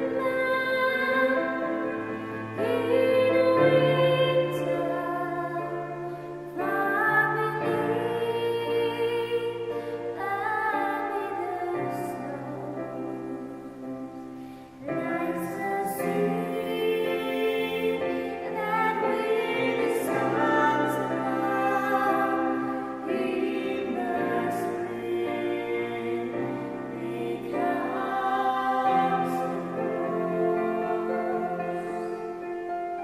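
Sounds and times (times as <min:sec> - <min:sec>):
sustained musical accompaniment: 0:00.0 - 0:33.0
voices singing a slow ballad: 0:00.0 - 0:33.0.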